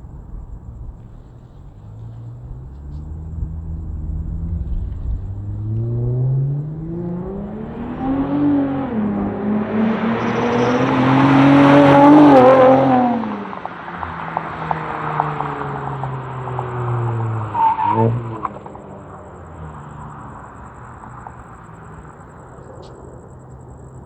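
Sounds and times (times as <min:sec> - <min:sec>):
car accelerating past: 0:00.0 - 0:24.0.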